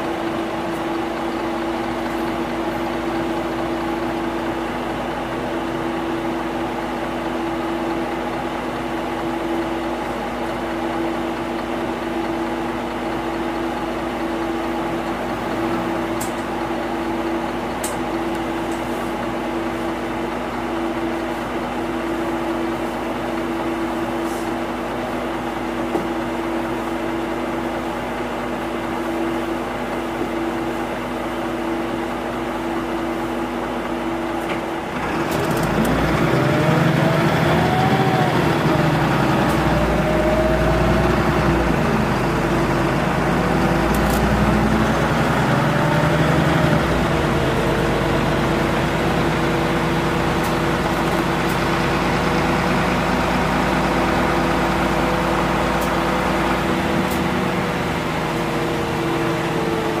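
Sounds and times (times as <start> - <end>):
bus diesel engine running: 0.0 - 60.0.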